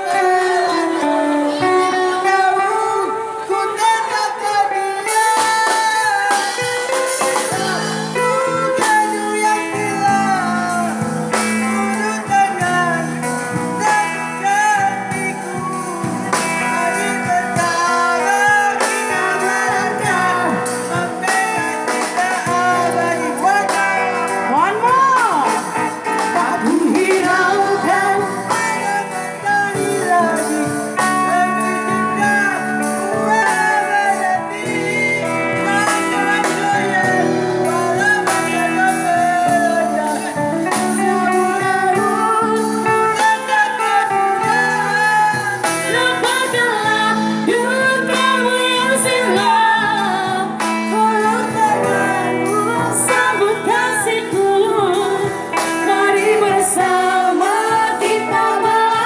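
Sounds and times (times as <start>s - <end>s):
guitar: 0.0s - 59.0s
man and women singing a duet: 0.0s - 59.0s.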